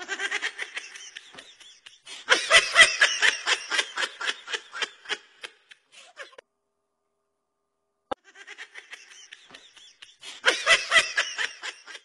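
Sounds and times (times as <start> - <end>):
person laughing: 0.0 - 6.4, 8.1 - 12.0.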